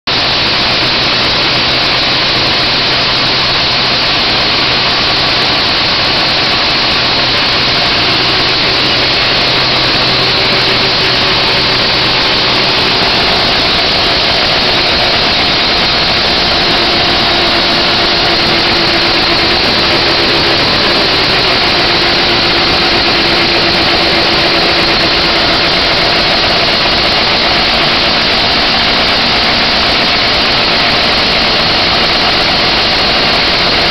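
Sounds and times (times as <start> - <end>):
snowmobile engine running: 0.1 - 33.9.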